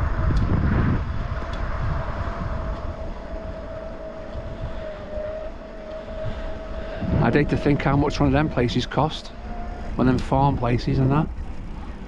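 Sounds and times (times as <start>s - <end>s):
steady thin whine: 0.0s - 12.0s
wind rumbling on microphone: 0.0s - 12.0s.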